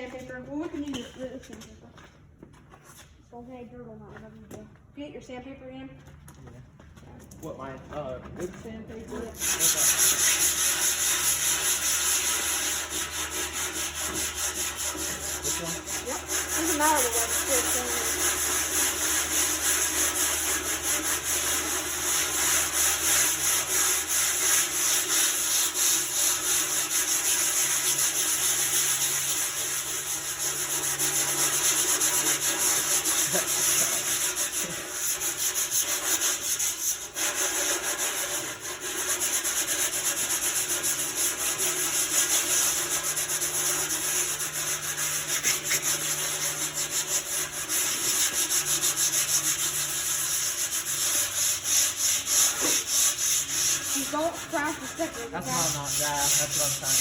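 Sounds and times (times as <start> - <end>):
sandpaper scrubbing sheet metal: 9.0 - 57.0.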